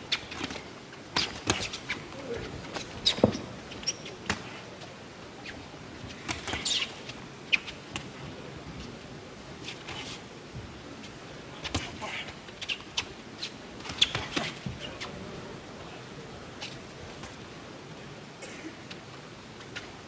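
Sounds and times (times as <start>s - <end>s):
arena background noise: 0.0s - 20.0s.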